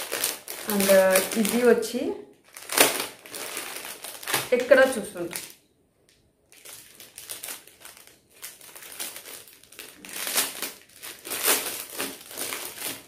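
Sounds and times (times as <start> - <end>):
packaging crinkling: 0.0 - 5.6, 6.5 - 13.0.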